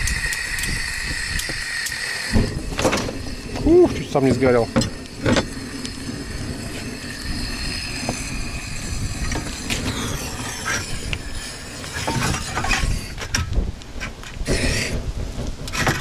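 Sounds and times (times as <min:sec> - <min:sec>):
gas stove burner rushing: 0:00.0 - 0:16.0.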